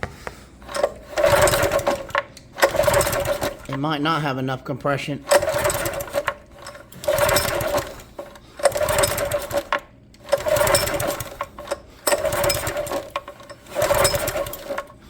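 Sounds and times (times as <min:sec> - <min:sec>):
pull-cord starter whirring: 0:00.0 - 0:04.0, 0:05.2 - 0:15.0.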